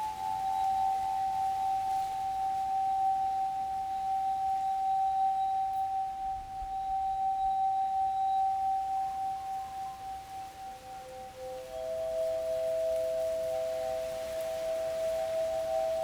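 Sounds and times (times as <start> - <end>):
crystal harp pure tone: 0.0 - 16.0.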